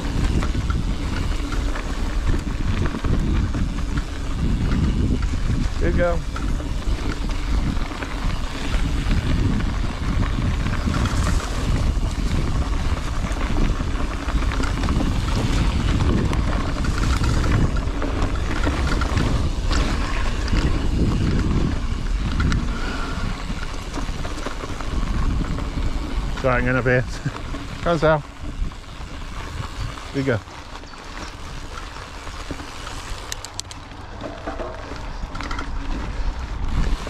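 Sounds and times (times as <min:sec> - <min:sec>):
bike rolling rumble: 0:00.0 - 0:37.0
wind buffeting microphone: 0:00.0 - 0:37.0.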